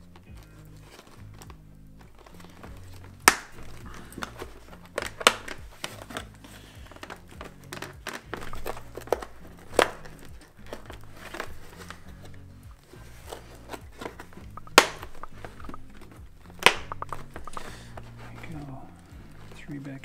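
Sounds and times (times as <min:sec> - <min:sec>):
sharp plastic snaps: 0:00.0 - 0:18.7
helmet padding rustling and crinkling: 0:00.0 - 0:20.0
quiet background music: 0:00.0 - 0:20.0.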